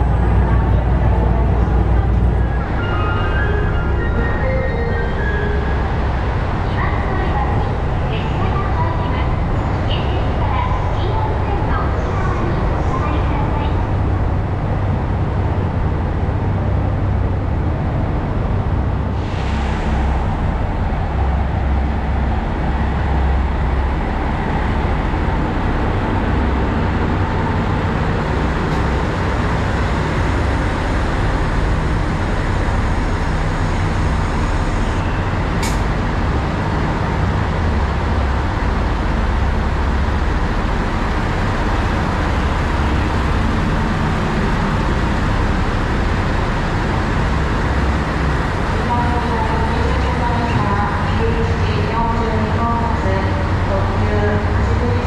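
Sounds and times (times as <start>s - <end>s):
diesel engines idling: 0.0s - 55.0s.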